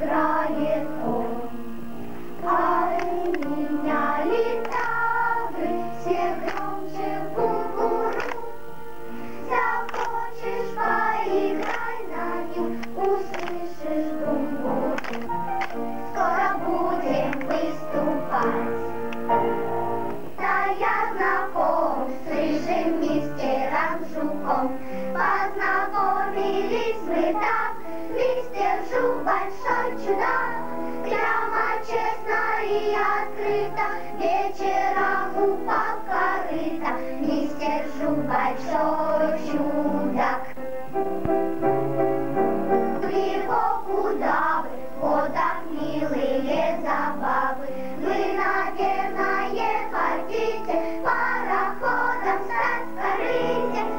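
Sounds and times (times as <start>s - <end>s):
children's choir singing: 0.0s - 53.9s
instrumental accompaniment: 0.0s - 53.9s.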